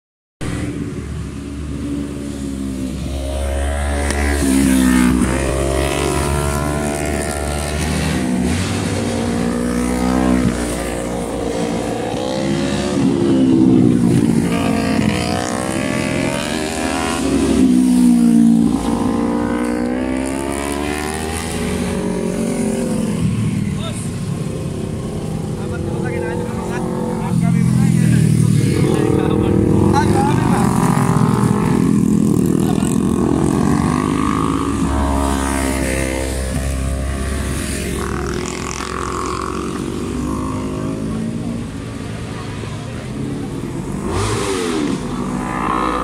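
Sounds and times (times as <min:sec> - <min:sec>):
motorcycles revving and passing: 0:00.4 - 0:46.0.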